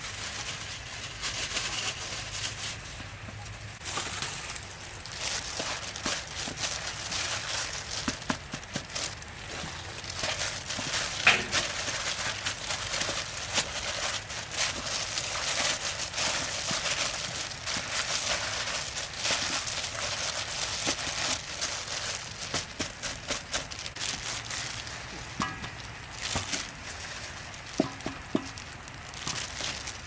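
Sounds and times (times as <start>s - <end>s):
food frying in hot oil: 3.7s - 30.0s.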